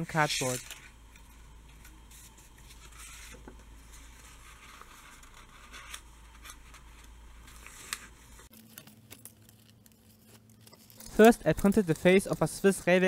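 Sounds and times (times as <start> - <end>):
low steady hum: 0.0 - 13.0
paper rustling and crinkling: 0.2 - 12.7.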